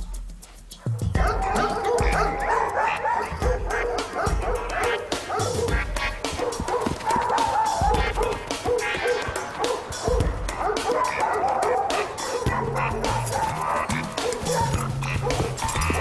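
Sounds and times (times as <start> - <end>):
background music: 0.0 - 16.0
dogs barking and yipping: 0.8 - 16.0.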